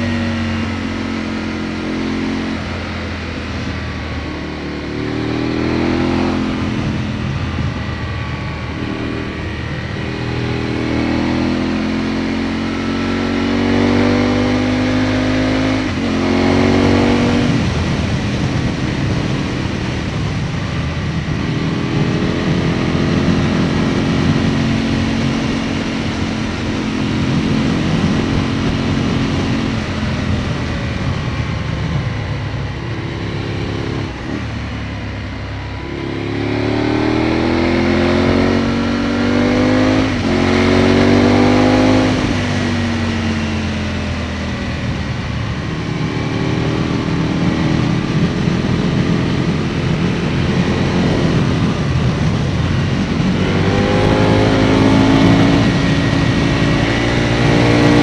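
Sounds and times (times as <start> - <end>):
motorcycle engine revving: 0.0 - 58.0
wind and road noise: 0.0 - 58.0.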